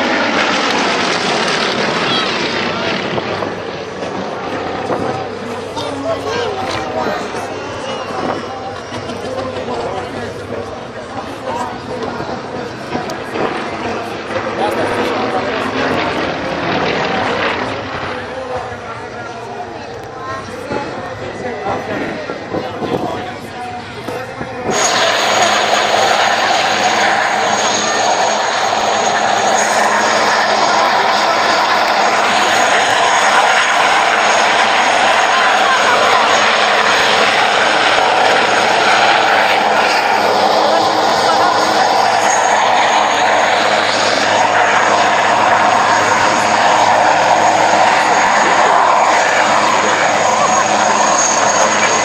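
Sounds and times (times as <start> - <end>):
helicopter rotor and engines: 0.0 - 52.0
high turbine whine: 0.0 - 52.0.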